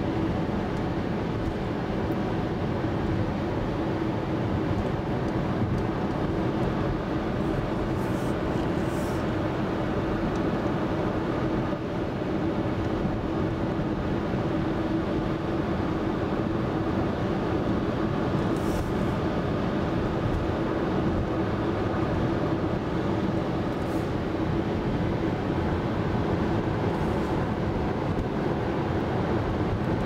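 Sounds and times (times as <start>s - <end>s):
car road noise at highway speed: 0.0s - 30.0s.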